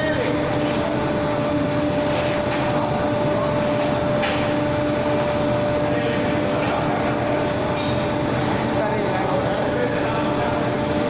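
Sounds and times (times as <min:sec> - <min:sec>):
high machine whine: 0:00.0 - 0:11.0
industrial machinery noise: 0:00.0 - 0:11.0.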